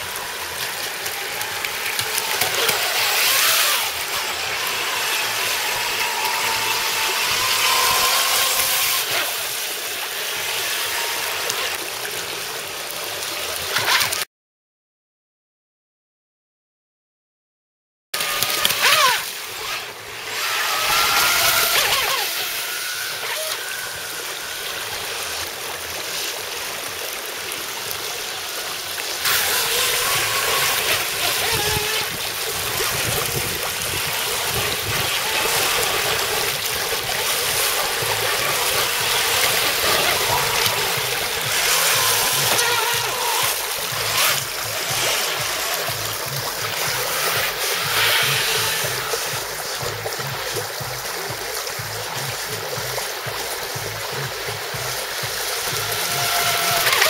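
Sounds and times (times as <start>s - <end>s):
model boat jet drive whining: 0.0s - 14.2s, 18.2s - 51.1s, 54.7s - 57.0s
water rushing over rocks: 0.0s - 14.3s, 18.2s - 57.0s.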